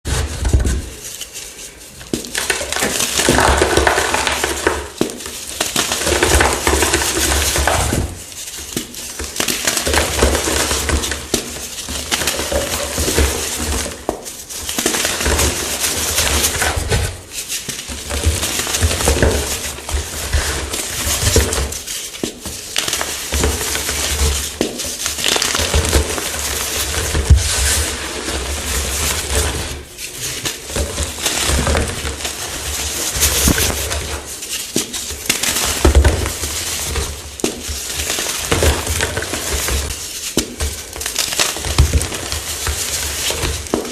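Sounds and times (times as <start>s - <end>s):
chalk crunching and crumbling: 0.1s - 43.9s.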